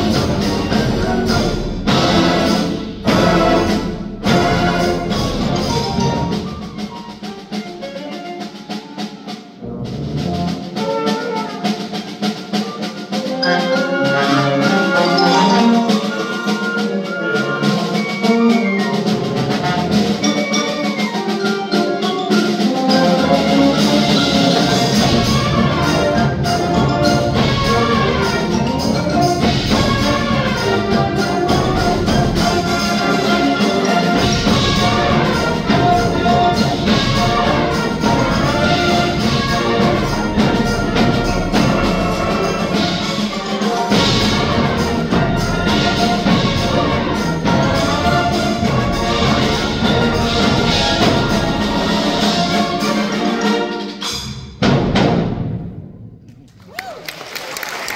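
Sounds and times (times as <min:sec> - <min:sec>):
concert band playing: 0:00.0 - 0:56.0.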